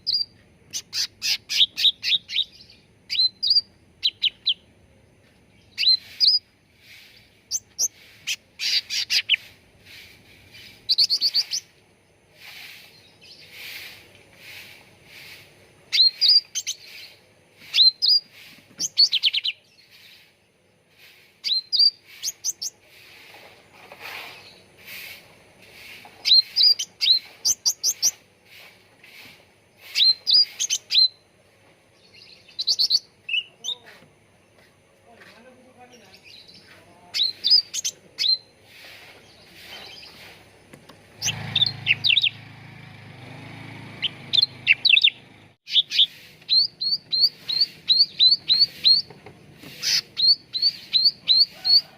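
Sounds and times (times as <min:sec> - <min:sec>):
songbirds chirping: 0:00.0 - 0:51.9.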